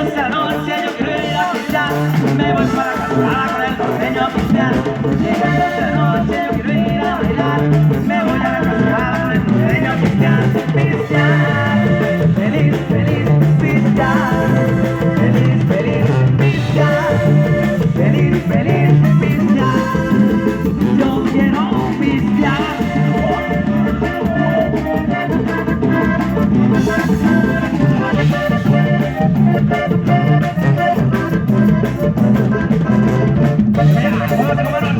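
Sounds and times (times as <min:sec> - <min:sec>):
live band playing dance music: 0:00.0 - 0:34.9.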